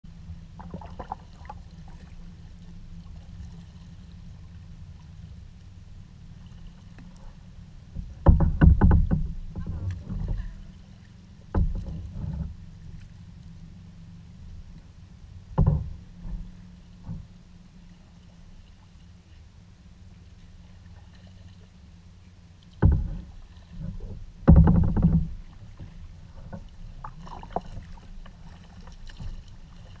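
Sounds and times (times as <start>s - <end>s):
kayak paddling rumble: 0.1s - 30.0s
paddle splashes and drips: 0.6s - 30.0s.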